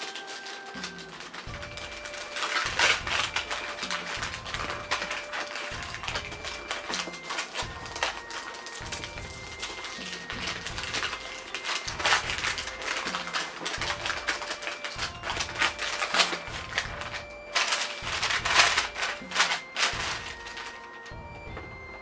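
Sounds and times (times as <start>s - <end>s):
light background music: 0.0s - 22.0s
packaging crinkling and clicking: 0.0s - 22.0s.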